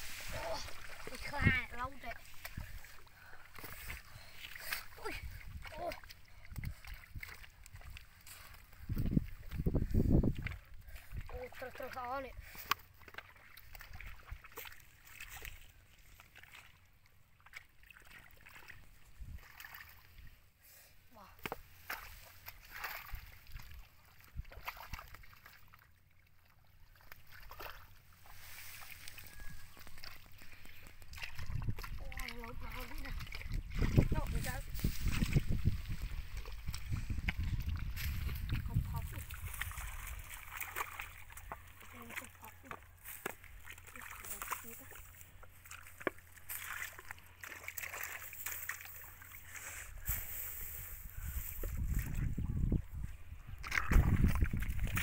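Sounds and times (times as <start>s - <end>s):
water splashes: 0.0s - 20.5s, 21.2s - 55.0s
mud squelching and sloshing: 0.0s - 55.0s.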